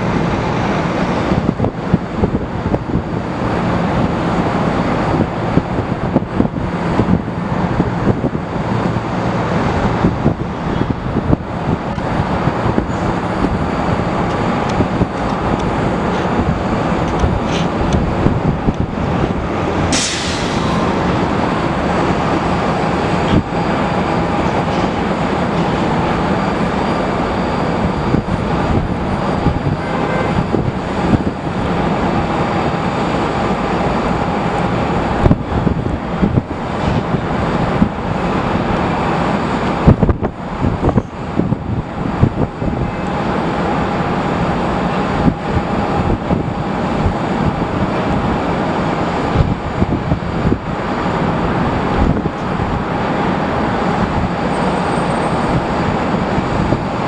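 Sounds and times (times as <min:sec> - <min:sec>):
jet engines rumbling: 0:00.0 - 0:57.0
wind buffeting microphone: 0:00.0 - 0:57.0.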